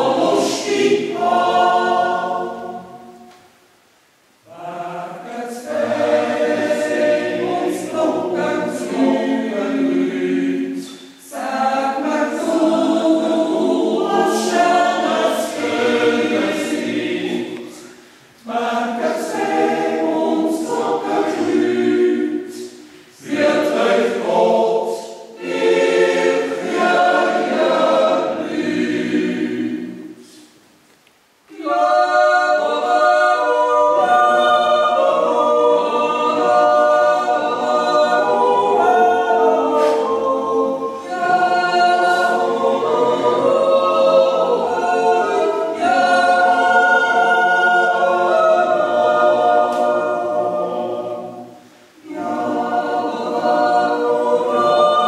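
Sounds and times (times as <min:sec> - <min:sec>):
choir yodeling in harmony: 0:00.0 - 0:03.4, 0:04.4 - 0:30.6, 0:31.5 - 0:55.0.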